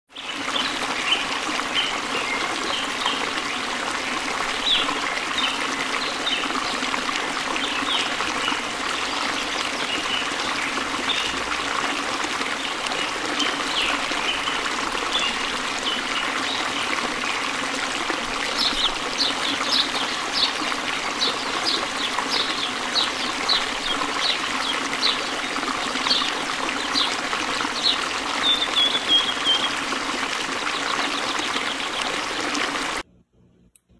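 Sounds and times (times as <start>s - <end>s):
water trickling: 0.1s - 33.0s.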